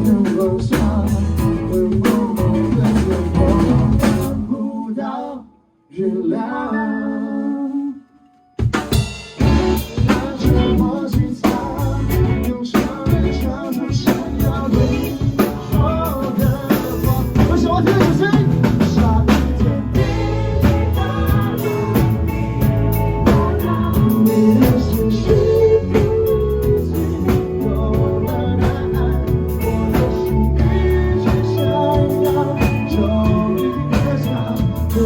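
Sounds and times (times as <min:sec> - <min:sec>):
rock band playing live: 0:00.0 - 0:04.5, 0:08.6 - 0:35.0
person singing: 0:00.0 - 0:08.2, 0:09.4 - 0:35.0.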